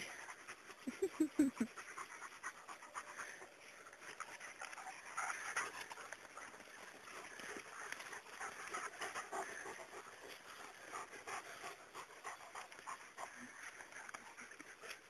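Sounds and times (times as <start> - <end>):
dog panting hard: 0.0 - 15.0.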